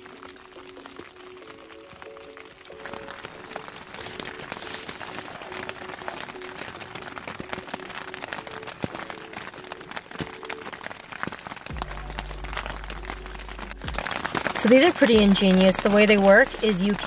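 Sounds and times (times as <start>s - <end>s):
rain pattering on fabric tent: 0.0s - 17.0s.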